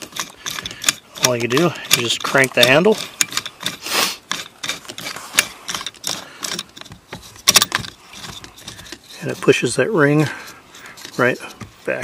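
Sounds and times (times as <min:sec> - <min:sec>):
brake piston compressor clicking and scraping: 0:00.0 - 0:12.0.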